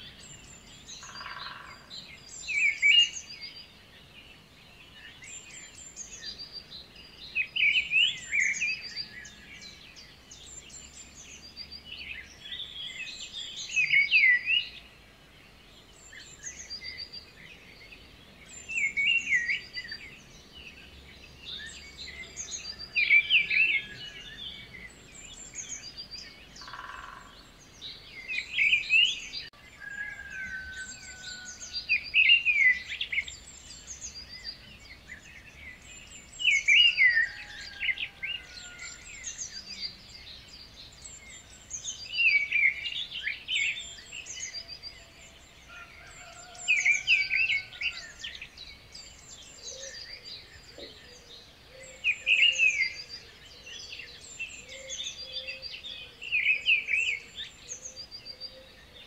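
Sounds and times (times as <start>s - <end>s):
birds singing: 0.0s - 59.0s.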